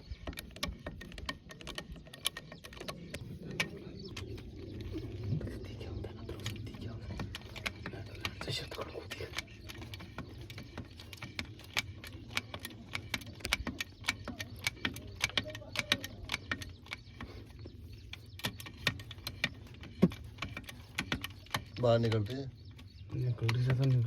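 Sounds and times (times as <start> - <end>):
sharp clicks and rattles: 0.0 - 24.0.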